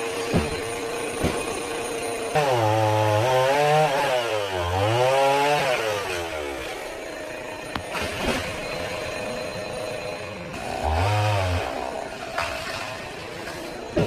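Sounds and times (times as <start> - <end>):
chainsaw cutting through trunk: 0.0 - 9.2, 10.5 - 14.0.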